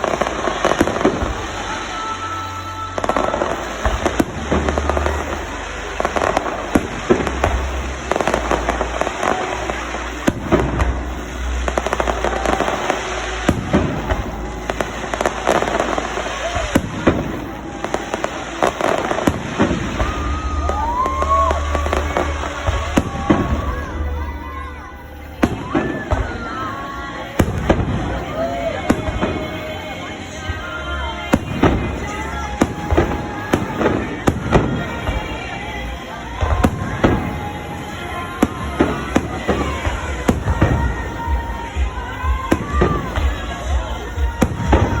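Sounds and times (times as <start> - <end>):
crowd voices: 0.0 - 45.0
fireworks bursting: 0.0 - 45.0
music over loudspeakers: 0.0 - 45.0.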